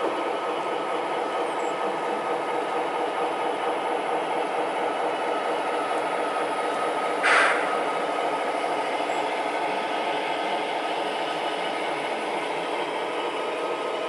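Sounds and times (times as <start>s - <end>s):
model train motors and wheels: 0.0s - 14.0s.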